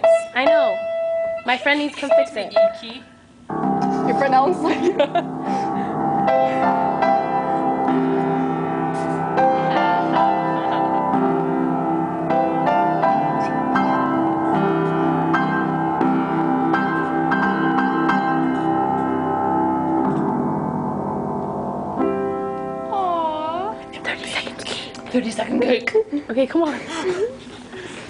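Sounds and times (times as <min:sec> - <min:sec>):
upright piano playing: 0:00.0 - 0:27.2.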